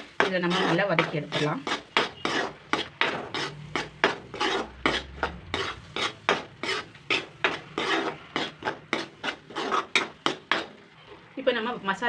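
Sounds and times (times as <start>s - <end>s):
paste frying in oil: 0.0s - 10.9s
spoon scraping paste in a pan: 0.0s - 11.2s.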